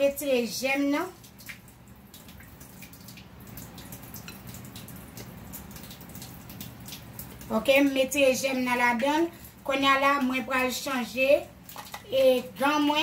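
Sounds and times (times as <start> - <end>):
water trickling into steel sink: 0.0 - 13.0
water drip ticks: 0.9 - 13.0.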